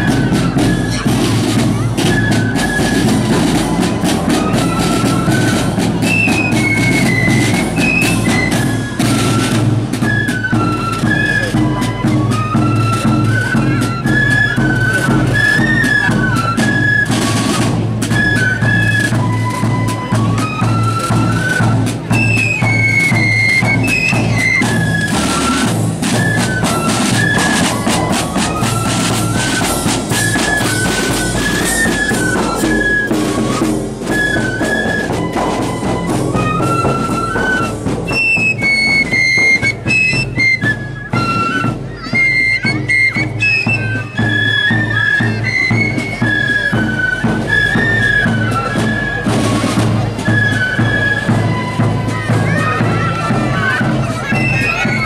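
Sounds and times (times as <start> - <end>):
flutes playing melody: 0.0 - 55.0
snare drums: 0.0 - 55.0.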